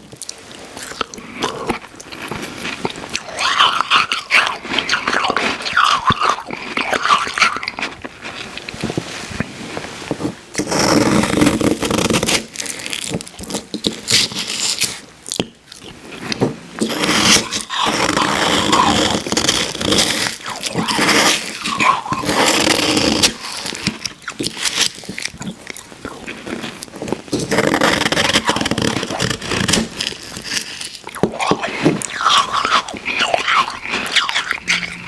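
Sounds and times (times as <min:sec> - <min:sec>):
crunching icy slush: 0:00.0 - 0:35.0
chewing: 0:00.1 - 0:09.5, 0:12.5 - 0:35.0.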